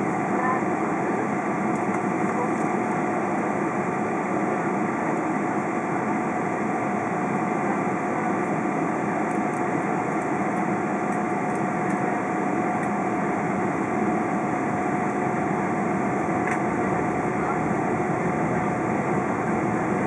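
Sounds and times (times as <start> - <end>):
jet engines humming and whining: 0.0 - 20.0.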